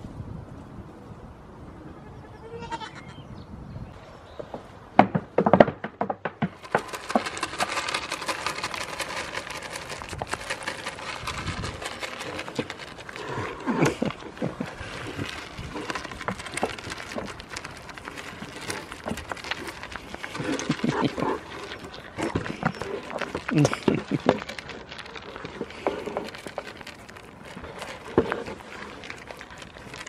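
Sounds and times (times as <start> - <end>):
goats crunching and smacking: 5.4 - 30.0.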